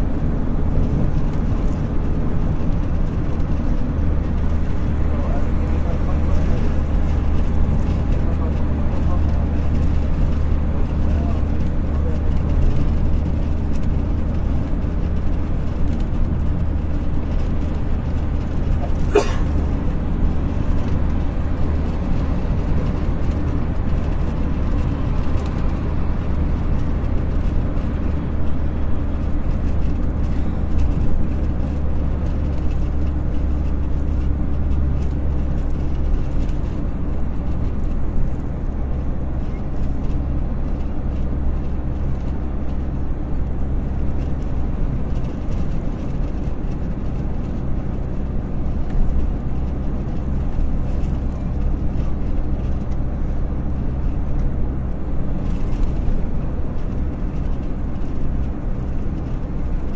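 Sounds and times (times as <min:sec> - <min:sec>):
vehicle engine and road rumble: 0:00.0 - 0:59.9.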